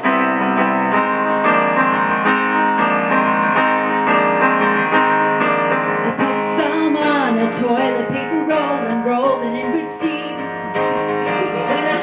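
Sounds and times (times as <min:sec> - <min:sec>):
electronic keyboard chords: 0:00.0 - 0:12.0.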